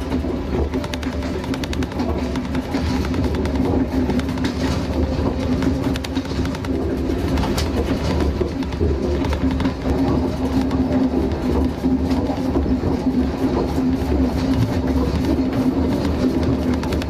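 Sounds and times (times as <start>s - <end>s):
train low drone: 0.0s - 17.0s
wheels clicking over rails: 0.0s - 17.0s.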